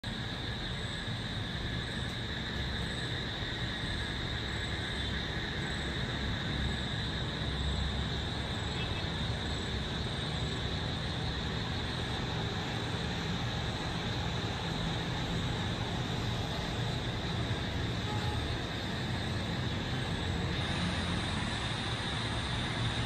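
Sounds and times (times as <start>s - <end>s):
distant traffic rumble: 0.0s - 23.0s
nocturnal insects droning: 0.0s - 23.0s.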